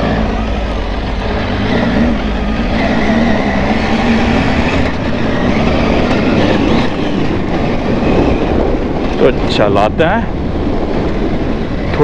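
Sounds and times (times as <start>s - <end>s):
motorcycle engine running: 0.0s - 12.0s
tyres on loose gravel: 0.0s - 12.0s
wind rumble: 0.0s - 12.0s.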